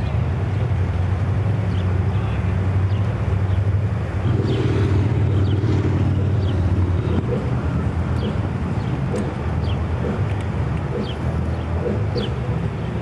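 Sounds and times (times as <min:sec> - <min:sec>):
rushing river: 0:00.0 - 0:13.0
wind buffeting microphone: 0:00.0 - 0:13.0.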